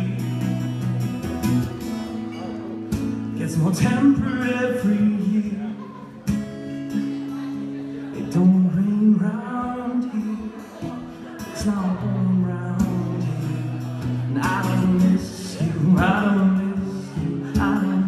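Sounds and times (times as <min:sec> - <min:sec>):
man singing: 0:00.0 - 0:01.2, 0:03.1 - 0:18.0
strummed acoustic guitar: 0:00.0 - 0:18.0.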